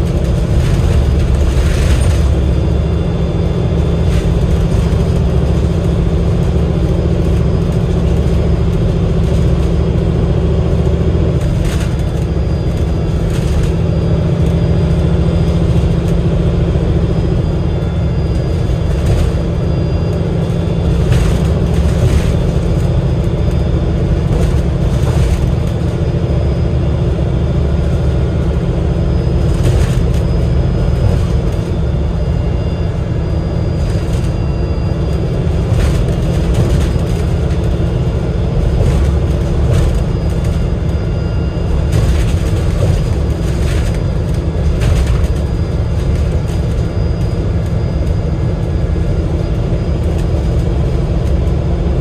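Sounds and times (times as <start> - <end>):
bus engine low rumble: 0.0 - 52.0.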